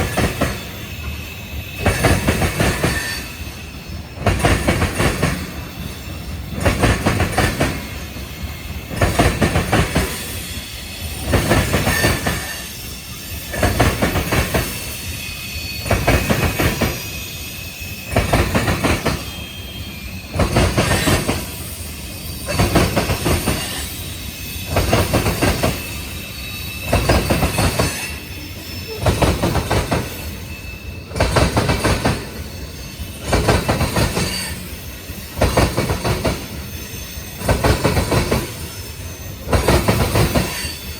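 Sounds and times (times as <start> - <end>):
faint wheel squeal: 0.0 - 40.9
train wheels clattering: 0.0 - 40.9.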